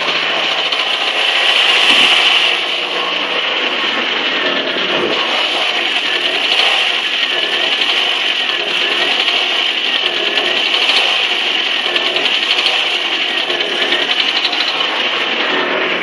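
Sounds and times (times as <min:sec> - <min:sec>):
car engine revving: 0:00.0 - 0:16.0
rapid metallic engine ticking: 0:00.0 - 0:16.0.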